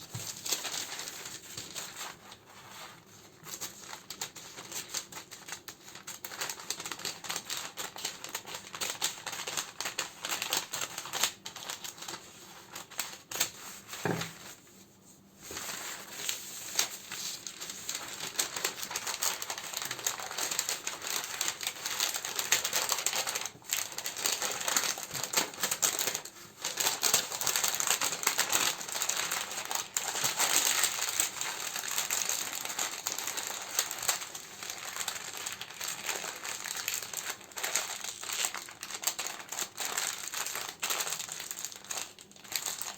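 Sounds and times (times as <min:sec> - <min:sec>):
plastic and paper wrappings crinkling: 0:00.0 - 0:42.9.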